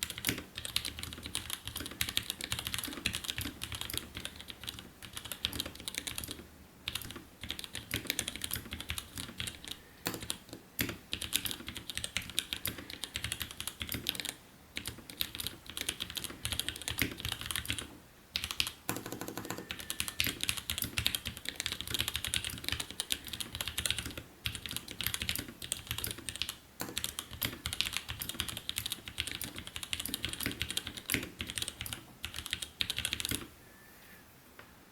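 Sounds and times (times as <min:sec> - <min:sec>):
mechanical keyboard typing: 0:00.0 - 0:33.5.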